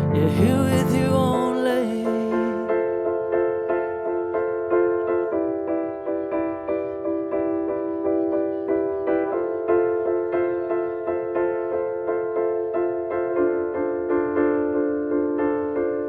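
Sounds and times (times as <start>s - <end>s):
piano playing repeated chords: 0.0s - 16.0s.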